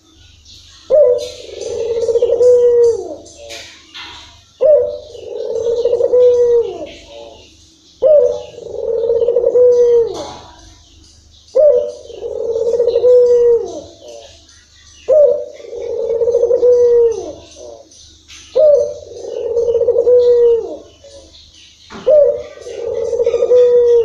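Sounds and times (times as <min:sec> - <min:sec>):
dove cooing: 0:00.7 - 0:24.0.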